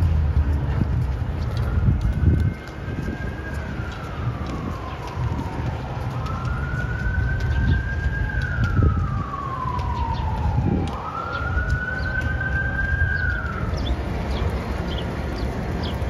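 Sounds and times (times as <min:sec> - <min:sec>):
siren wailing: 0:01.4 - 0:14.9.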